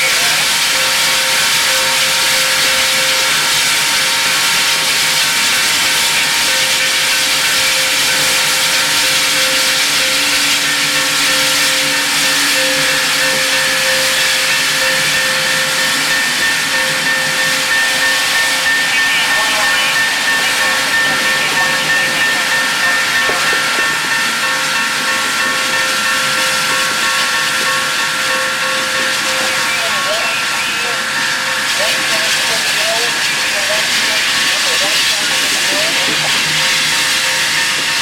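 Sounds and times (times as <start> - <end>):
steady whine: 0.0 - 38.0
steam locomotive hissing steam: 0.0 - 38.0.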